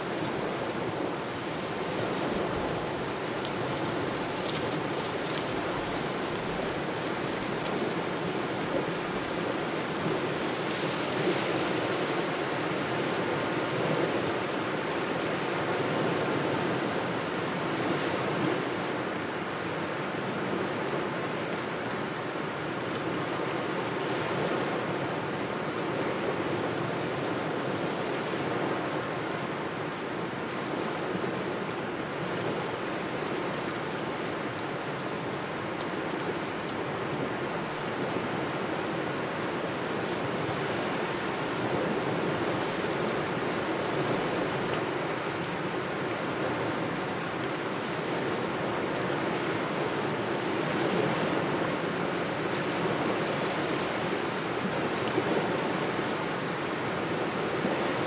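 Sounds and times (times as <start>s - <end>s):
small waves washing on shore: 0.0s - 58.0s.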